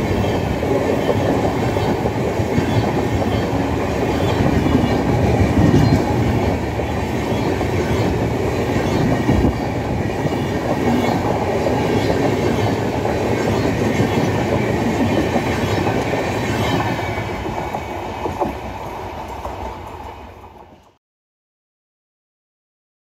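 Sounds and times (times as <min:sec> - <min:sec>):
train wheels clattering on track: 0:00.0 - 0:21.0.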